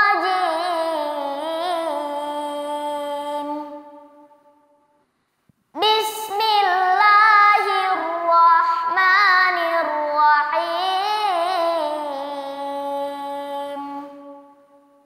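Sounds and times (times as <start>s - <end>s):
child chanting melodically: 0.0s - 4.8s, 5.8s - 15.0s.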